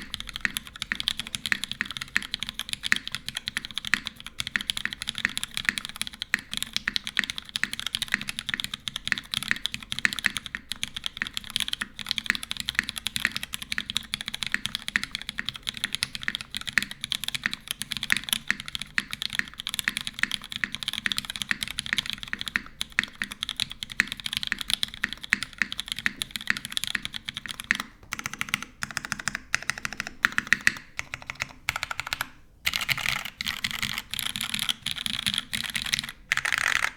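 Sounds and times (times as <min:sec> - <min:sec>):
fast mechanical keyboard typing: 0:00.0 - 0:36.9.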